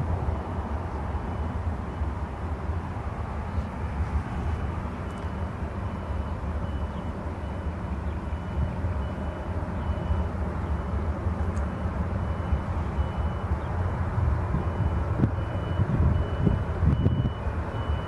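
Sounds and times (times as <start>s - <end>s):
jet engines rumbling at takeoff: 0.0s - 18.0s.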